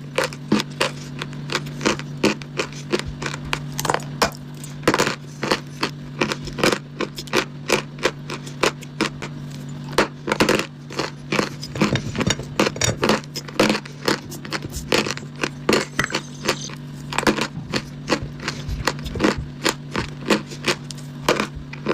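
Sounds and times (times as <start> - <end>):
chalk being chewed crunching: 0.0 - 21.9.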